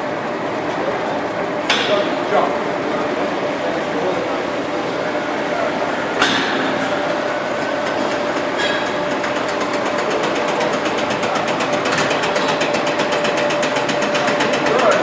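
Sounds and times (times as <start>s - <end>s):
mixer humming: 0.0s - 15.0s.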